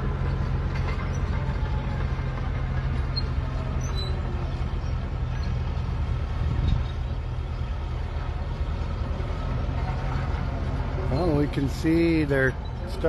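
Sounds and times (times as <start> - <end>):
diesel machinery rumble: 0.0 - 13.0.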